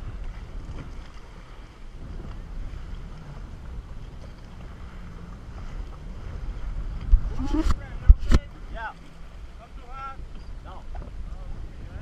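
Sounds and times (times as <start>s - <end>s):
jet ski engines running: 0.0s - 12.0s
water splashing around hulls: 0.0s - 12.0s
wind buffeting microphone: 0.0s - 12.0s.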